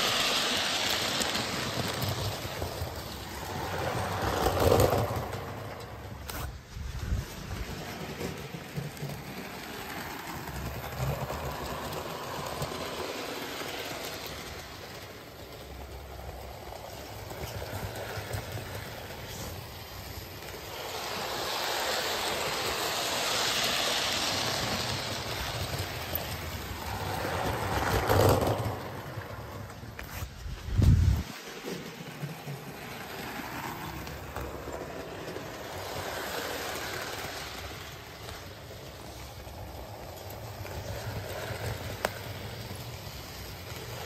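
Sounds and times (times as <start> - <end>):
model train motor whirr: 0.0 - 44.0
wheels rumbling on rails: 0.0 - 44.0.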